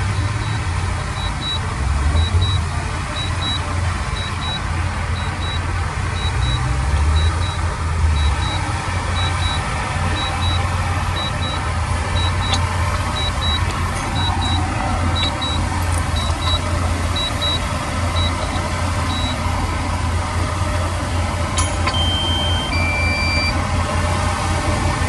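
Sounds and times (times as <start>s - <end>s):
reversing alarm beeping: 0.0s - 19.7s, 21.6s - 23.6s
diesel engine running: 0.0s - 25.0s
higher steady tones: 0.1s - 23.7s.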